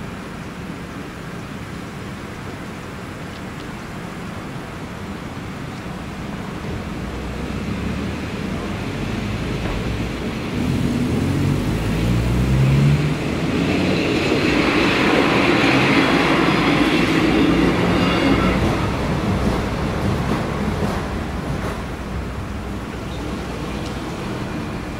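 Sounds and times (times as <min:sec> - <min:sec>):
rail and wheel noise: 0:00.0 - 0:24.9
passenger train passing: 0:04.2 - 0:24.9.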